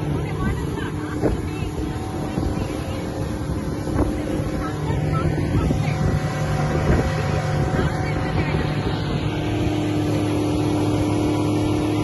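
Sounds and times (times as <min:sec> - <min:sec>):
speedboat engine running: 0:00.0 - 0:12.0
wind buffeting microphone: 0:00.0 - 0:12.0.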